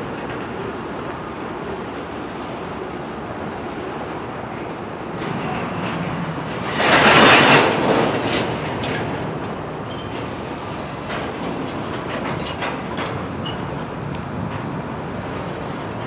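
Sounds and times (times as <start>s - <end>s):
train wheels clacking over rail joints: 0.0s - 16.0s.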